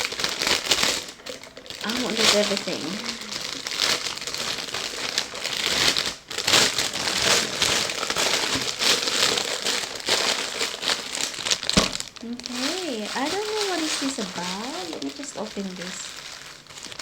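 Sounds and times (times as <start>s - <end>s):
bag crinkling and rustling: 0.0s - 17.0s.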